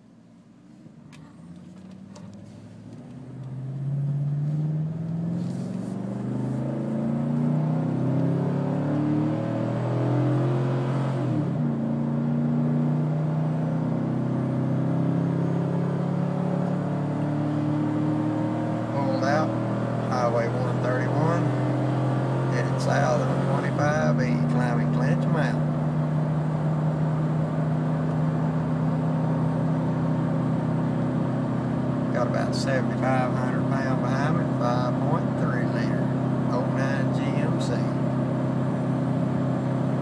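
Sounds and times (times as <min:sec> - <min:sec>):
truck engine accelerating: 0:00.8 - 0:40.0.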